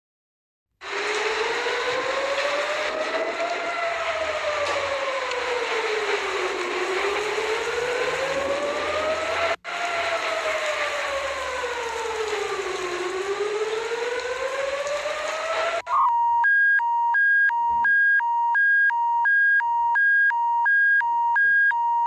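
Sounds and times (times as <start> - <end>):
siren wailing: 0.8 - 22.0.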